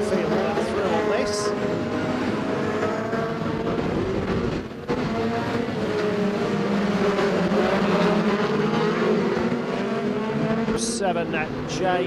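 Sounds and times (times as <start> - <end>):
stock car engines droning: 0.0 - 12.0.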